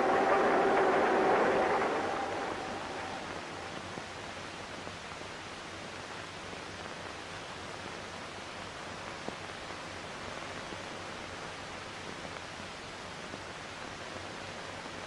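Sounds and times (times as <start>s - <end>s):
faint low hum: 0.0s - 15.0s
film soundtrack hiss: 0.0s - 15.0s.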